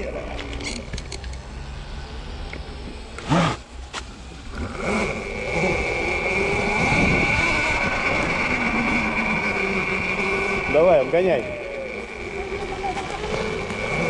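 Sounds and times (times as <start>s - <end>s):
electric motor whining: 1.3s - 14.0s.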